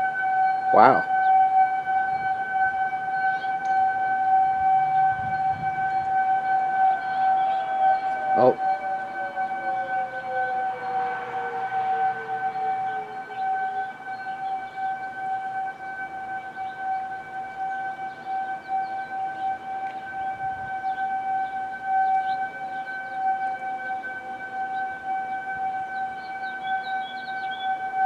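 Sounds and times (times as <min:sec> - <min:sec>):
lower siren sliding in pitch: 0:00.0 - 0:28.0
warning siren steady tone: 0:00.0 - 0:28.0.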